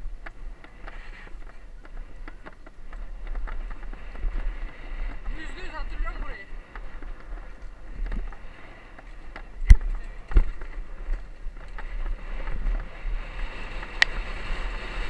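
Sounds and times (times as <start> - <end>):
bike tyres rumbling on dirt: 0.0 - 15.0
wind on microphone: 0.0 - 15.0.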